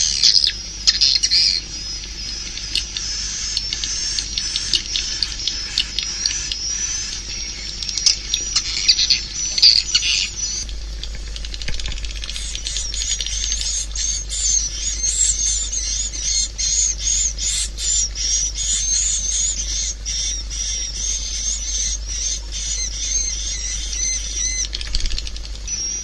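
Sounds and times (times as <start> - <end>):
swiftlets twittering: 0.0 - 26.0.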